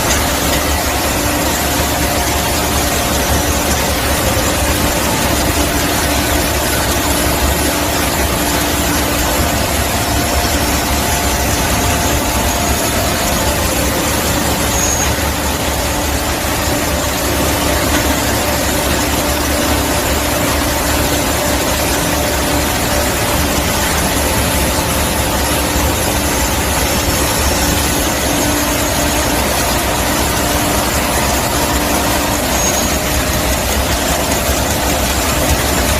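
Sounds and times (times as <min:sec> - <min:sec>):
industrial vacuum motor drone: 0:00.0 - 0:35.9.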